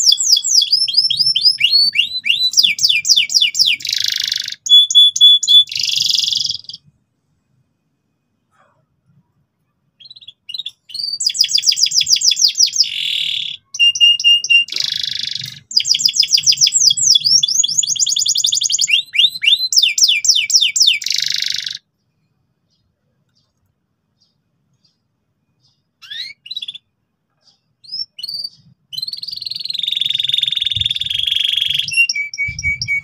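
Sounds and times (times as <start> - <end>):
canary singing: 0.0 - 6.9, 10.0 - 33.0.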